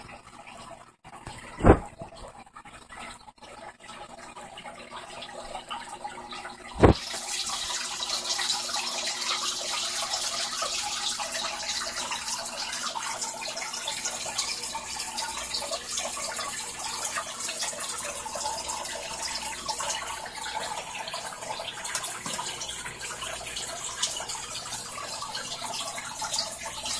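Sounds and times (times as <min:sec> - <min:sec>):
aquarium water trickling: 0:00.0 - 0:26.9.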